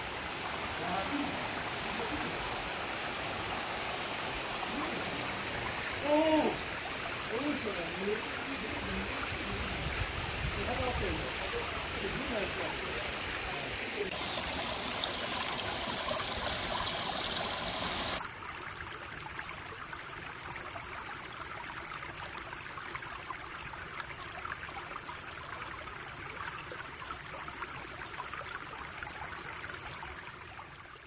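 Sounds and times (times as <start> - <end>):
stream flowing over rocks: 0.0 - 31.0.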